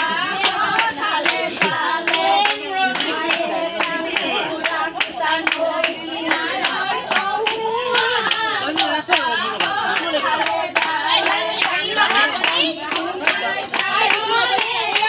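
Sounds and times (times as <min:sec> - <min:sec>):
rhythmic hand clapping: 0:00.0 - 0:15.0
women singing together: 0:00.0 - 0:15.0.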